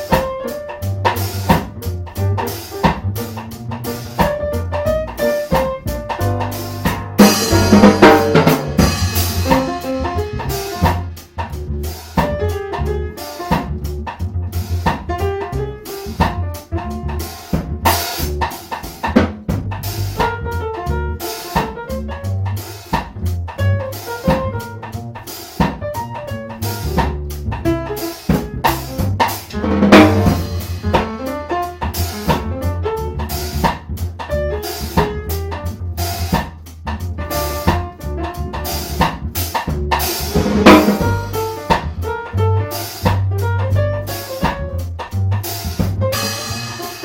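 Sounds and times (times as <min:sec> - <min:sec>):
piano chords: 0:00.0 - 0:11.5, 0:12.1 - 0:14.3, 0:14.9 - 0:47.0
bass line: 0:00.0 - 0:47.0
drum kit playing busy beat: 0:00.0 - 0:47.0.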